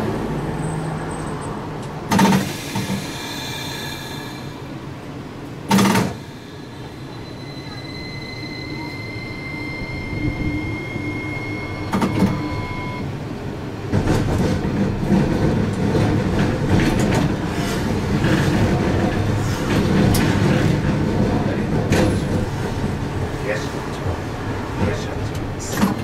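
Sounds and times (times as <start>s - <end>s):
tram high whine: 0.0s - 26.0s
tram rolling rumble: 0.0s - 26.0s.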